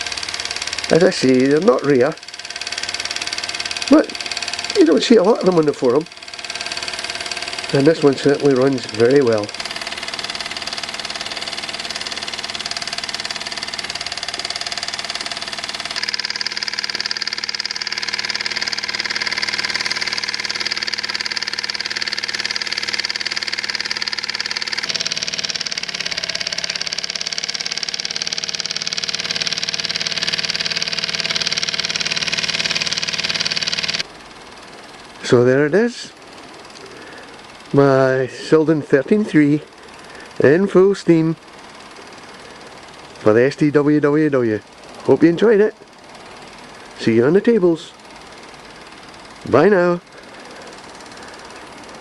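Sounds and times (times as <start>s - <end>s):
toy steam engine running: 0.0s - 52.0s.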